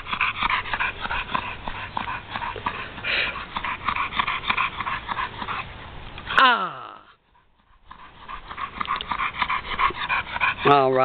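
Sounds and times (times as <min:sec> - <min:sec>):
dog panting hard: 0:00.0 - 0:06.0, 0:07.2 - 0:11.0.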